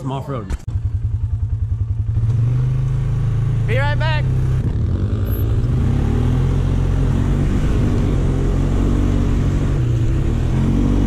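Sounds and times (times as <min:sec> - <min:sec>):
atv engine revving: 0:00.7 - 0:11.0.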